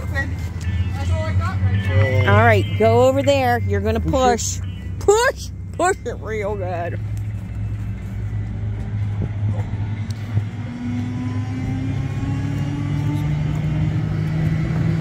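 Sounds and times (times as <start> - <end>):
tow truck engine revving: 0.0 - 15.0.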